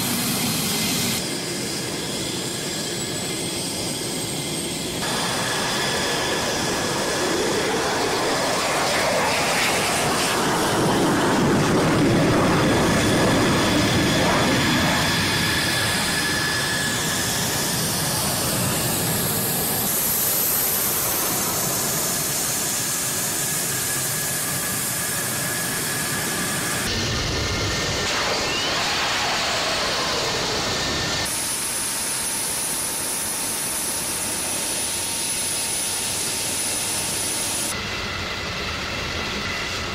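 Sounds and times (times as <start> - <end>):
fighter jet engine roar: 0.0 - 39.9
high turbine whine: 0.0 - 39.9.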